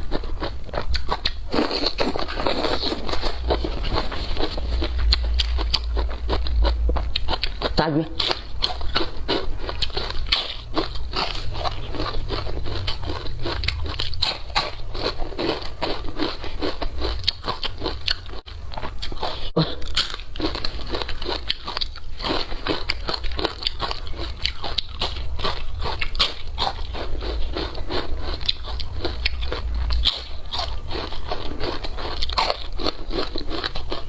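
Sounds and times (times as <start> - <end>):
crunching and chewing fried fish: 0.0 - 34.0.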